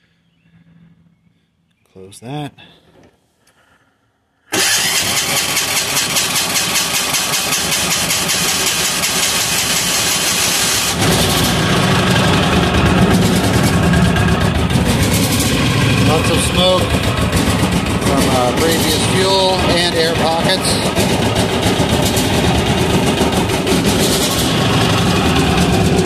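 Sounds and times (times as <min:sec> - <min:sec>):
diesel engine running: 0:04.6 - 0:26.0.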